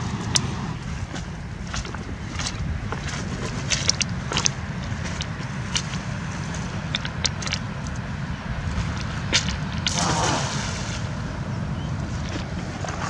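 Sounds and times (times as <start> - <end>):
footsteps on river cobbles: 0.0 - 13.0
low rumble: 0.0 - 13.0.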